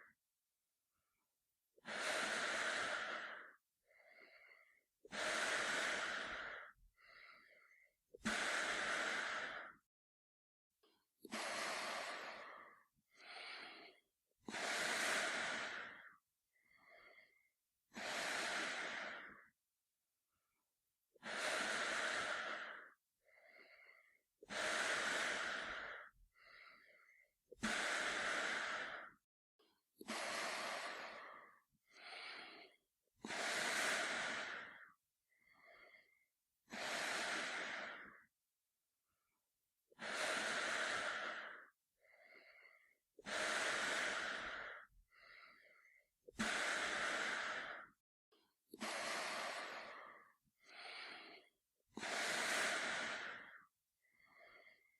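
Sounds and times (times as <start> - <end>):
man breathing through gas mask: 1.8 - 9.9, 11.3 - 19.5, 21.2 - 29.2, 30.0 - 38.3, 39.9 - 48.0, 48.7 - 54.9.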